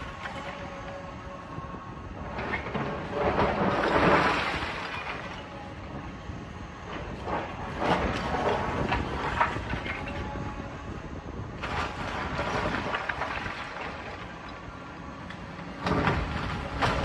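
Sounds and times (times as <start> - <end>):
demolition machinery rumbling: 0.0 - 17.0.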